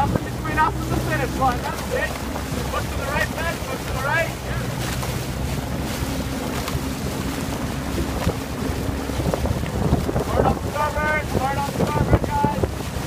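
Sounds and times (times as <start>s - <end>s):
oars splashing water: 0.0s - 13.0s
wind buffeting microphone: 0.0s - 13.0s.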